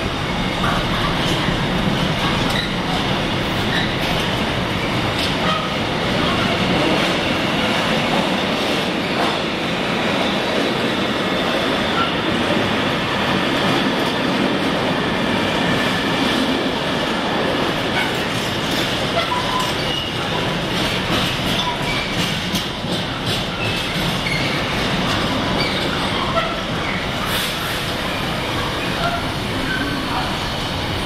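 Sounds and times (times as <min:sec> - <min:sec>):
train wheels rumbling and rattling: 0:00.0 - 0:31.0.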